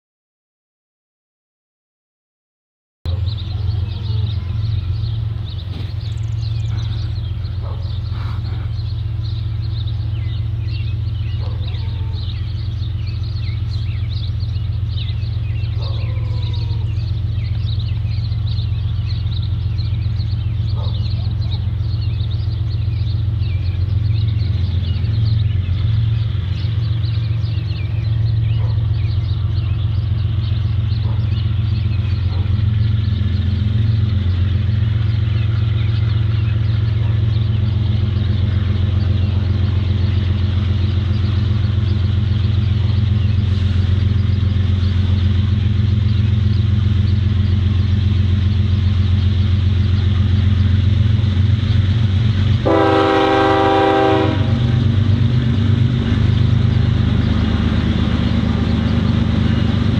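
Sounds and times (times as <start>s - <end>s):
birds chirping: 3.1s - 59.9s
large engine droning: 3.1s - 59.9s.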